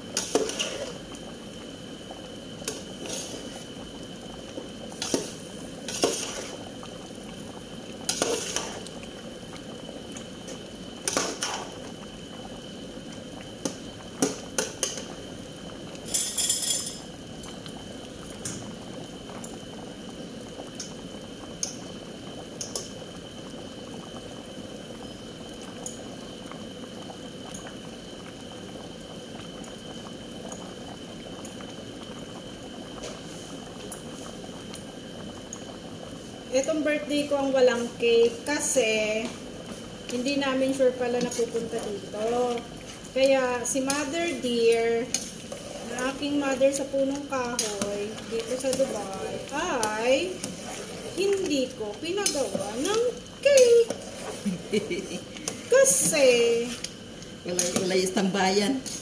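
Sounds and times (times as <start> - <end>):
pot of food bubbling: 0.0 - 59.0.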